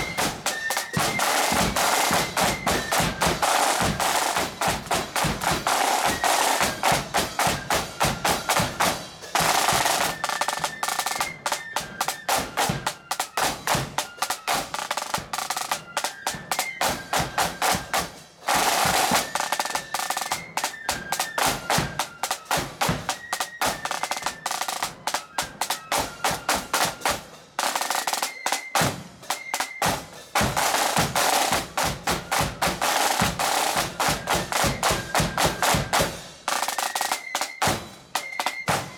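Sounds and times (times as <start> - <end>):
high marching melody: 0.0 - 38.9
snare drum rolls: 0.0 - 38.9.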